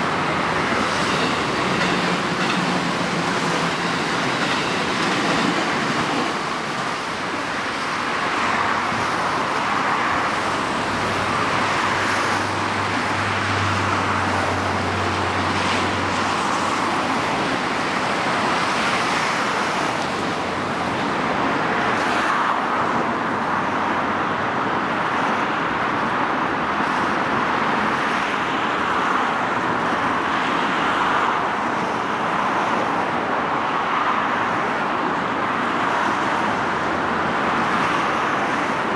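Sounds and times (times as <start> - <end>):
road traffic hiss: 0.0 - 38.9.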